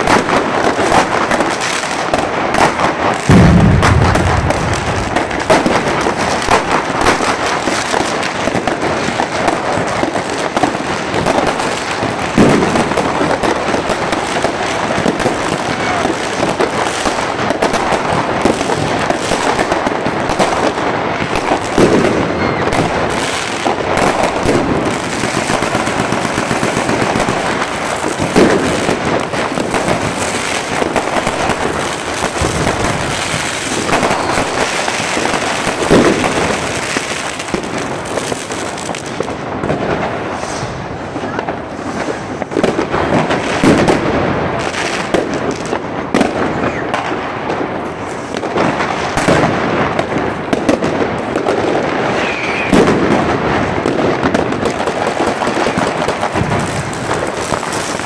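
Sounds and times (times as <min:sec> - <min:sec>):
fireworks crackling: 0:00.0 - 0:58.0
loud firework bangs: 0:00.0 - 0:58.0.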